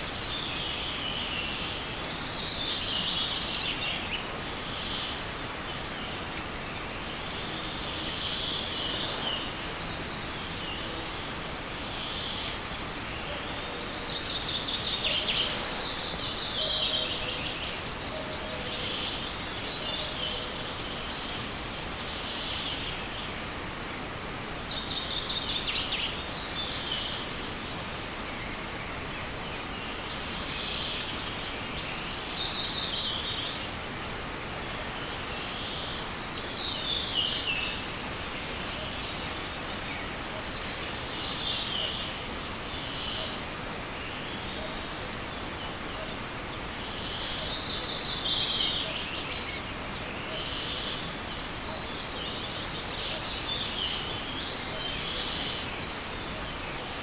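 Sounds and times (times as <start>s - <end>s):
forest stream rushing: 0.0s - 57.0s.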